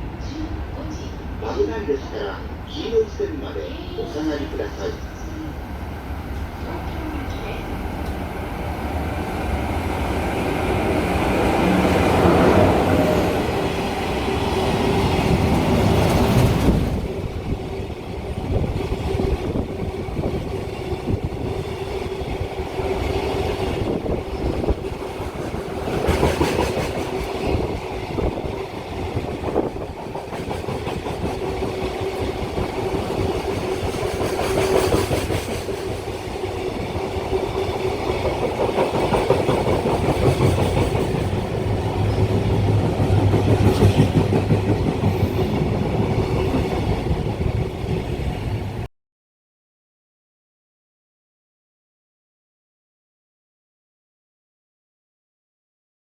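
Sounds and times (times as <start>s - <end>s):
locomotive passing: 3.7s - 48.9s.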